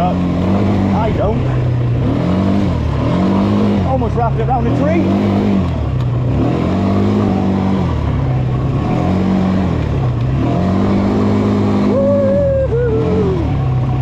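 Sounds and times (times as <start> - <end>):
quad bike engine revving: 0.0 - 14.0.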